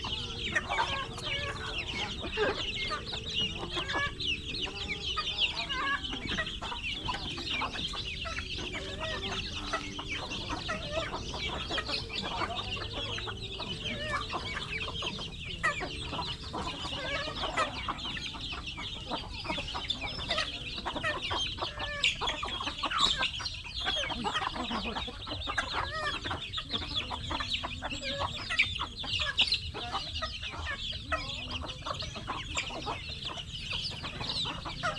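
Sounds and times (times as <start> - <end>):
flock of chickens clucking: 0.0 - 34.9.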